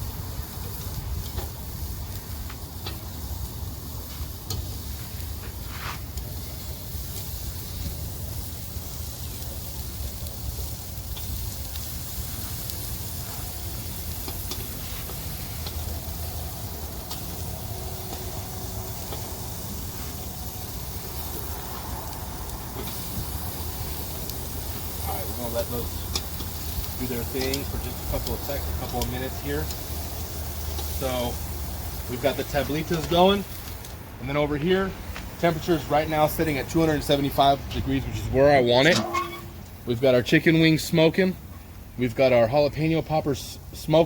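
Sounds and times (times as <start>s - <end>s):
meat sizzling on a grill: 0.0s - 44.0s.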